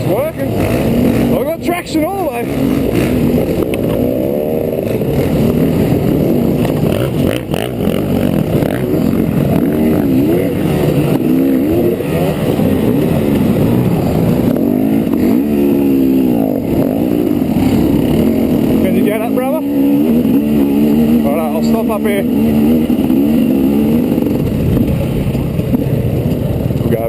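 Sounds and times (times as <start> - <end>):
trail bike engine revving: 0.0 - 27.0.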